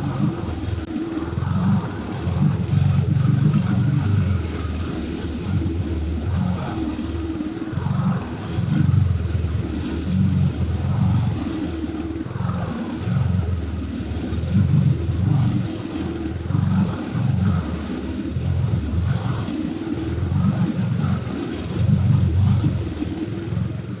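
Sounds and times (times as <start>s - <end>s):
lawn mower engine cutting grass: 0.0s - 24.0s.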